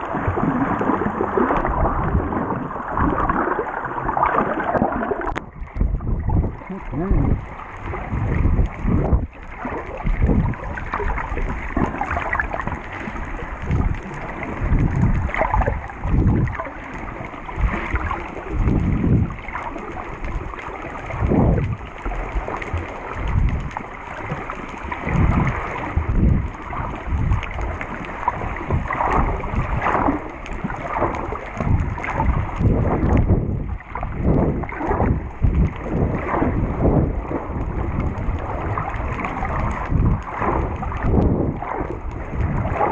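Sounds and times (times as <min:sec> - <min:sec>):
muffled underwater water surges: 0:00.0 - 0:42.9.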